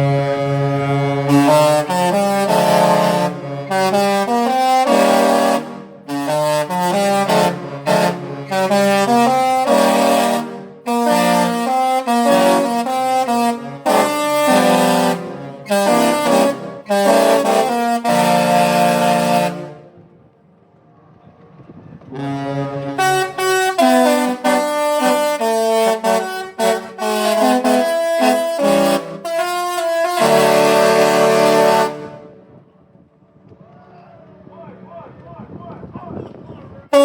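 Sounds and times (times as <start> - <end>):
ship horns playing a melody: 0.0 - 20.1, 22.1 - 32.6.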